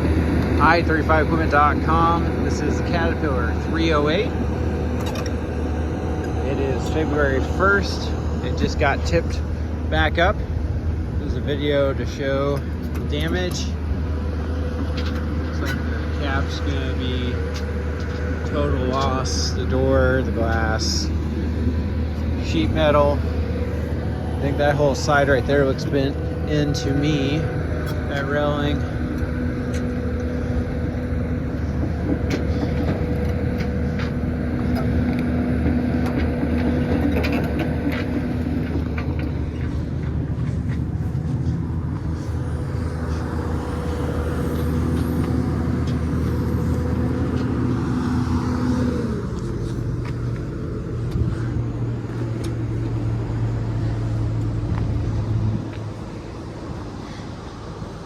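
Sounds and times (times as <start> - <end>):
engine running with low hum: 0.0 - 58.0.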